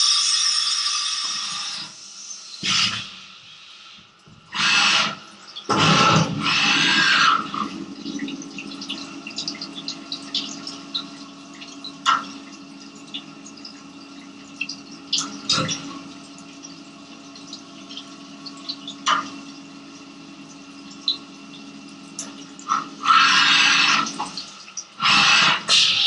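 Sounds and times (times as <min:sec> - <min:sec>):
coolant spraying and splashing: 0:00.0 - 0:26.0
spindle hum: 0:04.2 - 0:26.0.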